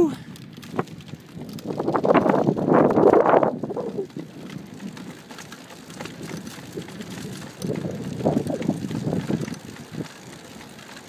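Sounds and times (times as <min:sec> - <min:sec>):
wind rushing over microphone: 0:00.0 - 0:05.1, 0:06.1 - 0:10.1.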